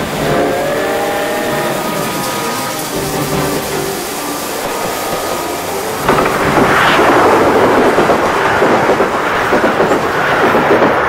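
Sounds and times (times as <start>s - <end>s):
passenger train passing: 0.0s - 11.0s.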